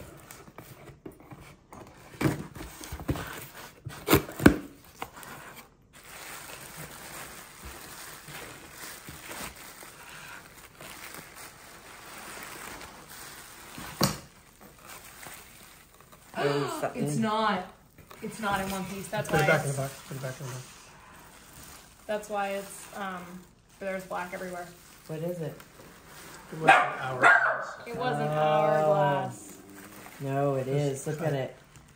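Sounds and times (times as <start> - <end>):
bubble wrap rustling: 4.8 - 31.9.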